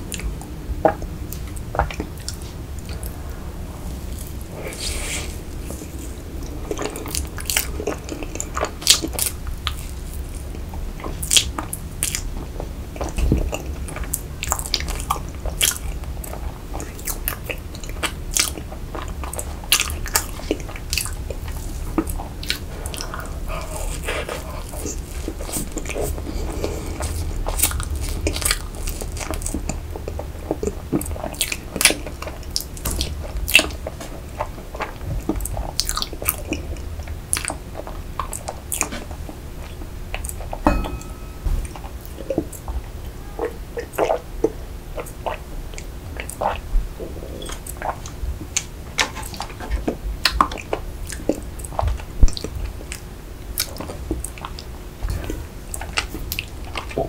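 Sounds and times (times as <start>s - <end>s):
chewing soft cake: 0.0s - 57.0s.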